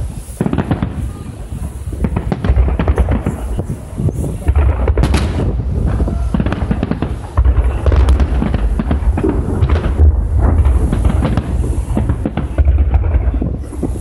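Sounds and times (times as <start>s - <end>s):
fireworks booming and crackling: 0.0s - 14.0s.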